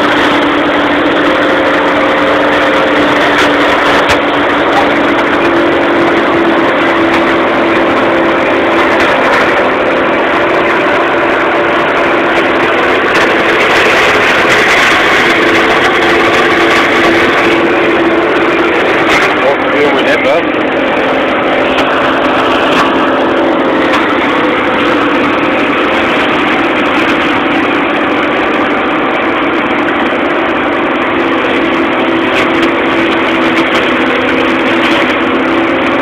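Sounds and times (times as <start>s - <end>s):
flail mower cutting hedge: 0.0s - 36.0s
tractor engine drone: 0.0s - 36.0s.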